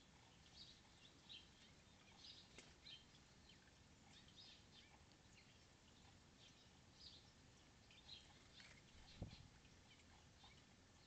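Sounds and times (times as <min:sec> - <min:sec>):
small bird chirps: 0:00.0 - 0:11.0.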